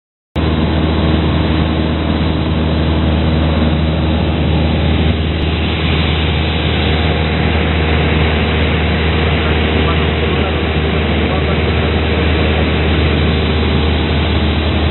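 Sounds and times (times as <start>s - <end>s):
small plane engine droning: 0.4s - 14.9s.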